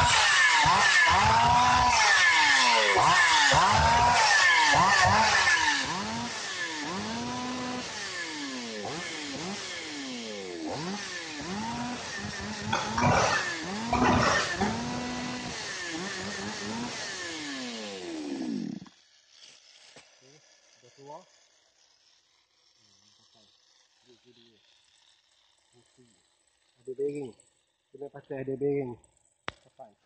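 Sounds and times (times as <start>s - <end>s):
chainsaw engine revving: 0.0s - 28.1s.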